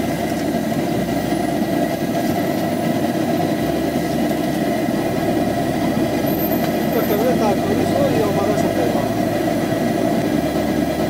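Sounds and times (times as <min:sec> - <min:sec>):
steady rumbling noise: 0:00.0 - 0:11.0.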